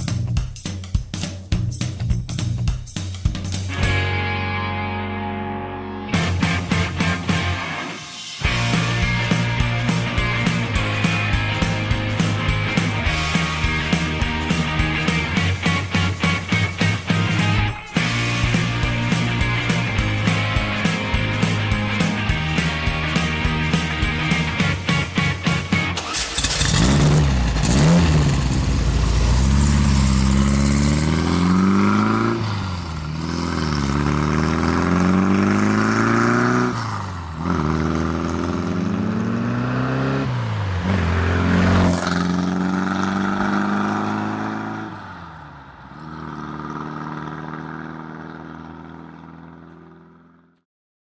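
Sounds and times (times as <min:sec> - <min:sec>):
car engine revving and idling: 0:06.2 - 0:50.6.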